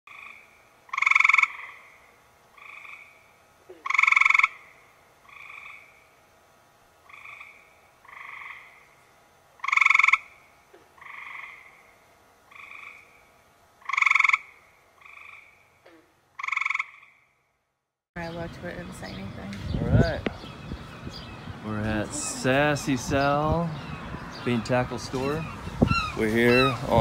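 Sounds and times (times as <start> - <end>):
frogs croaking: 0.1 - 6.3, 6.9 - 17.6, 18.2 - 27.0.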